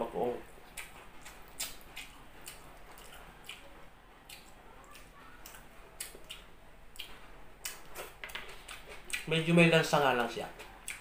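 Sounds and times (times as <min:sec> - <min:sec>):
person chewing food: 0:00.5 - 0:09.3, 0:10.5 - 0:11.0.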